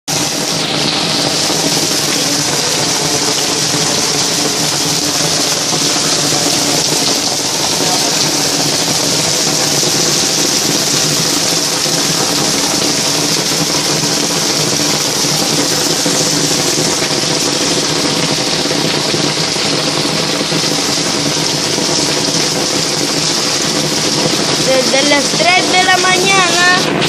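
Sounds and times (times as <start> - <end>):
heavy rain falling: 0.1 - 27.0.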